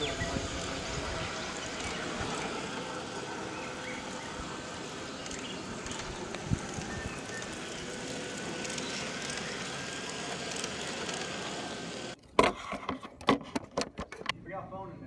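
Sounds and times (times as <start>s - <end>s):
faint motor whine: 0.0s - 12.2s
model streetcar rolling on track: 0.0s - 12.2s.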